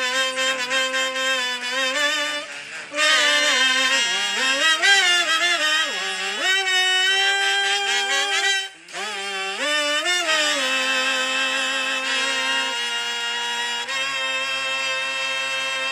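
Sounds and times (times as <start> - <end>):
sliding melody line: 0.0 - 15.9.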